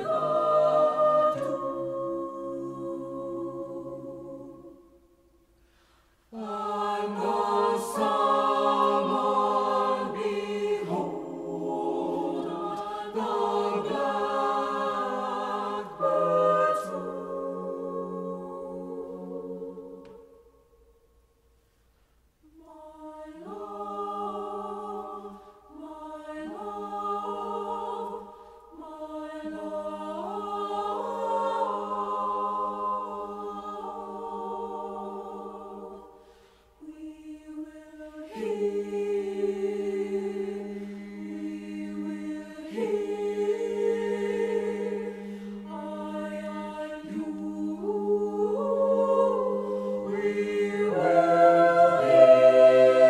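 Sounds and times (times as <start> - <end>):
choir singing a cappella: 0.0 - 21.0, 22.4 - 53.0.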